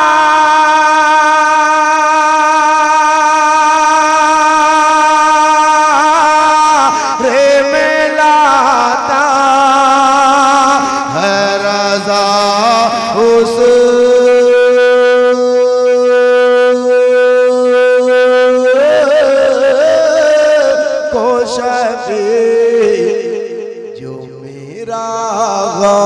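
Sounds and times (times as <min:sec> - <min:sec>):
man singing unaccompanied: 0:00.0 - 0:26.0.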